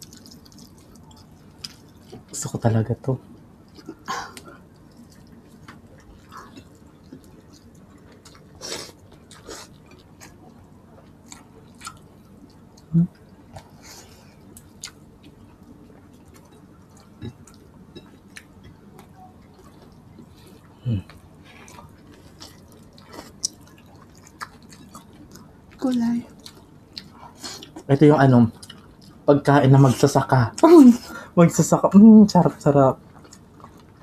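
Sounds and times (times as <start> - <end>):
close-up chewing: 0.0 - 2.4, 3.3 - 27.9, 28.5 - 29.3, 33.0 - 34.0.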